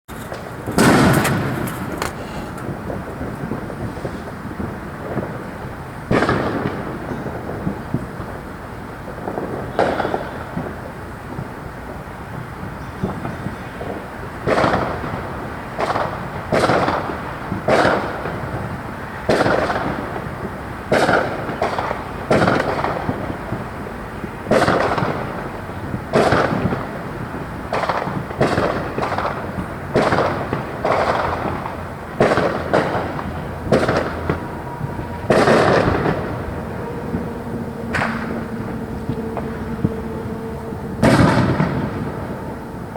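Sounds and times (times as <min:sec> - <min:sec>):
fireworks exploding: 0:00.1 - 0:42.9.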